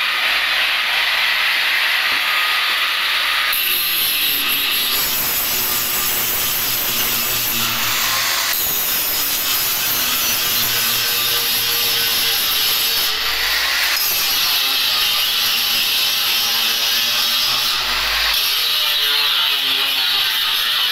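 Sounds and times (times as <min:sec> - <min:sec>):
angle grinder grinding steel: 0:00.0 - 0:20.9.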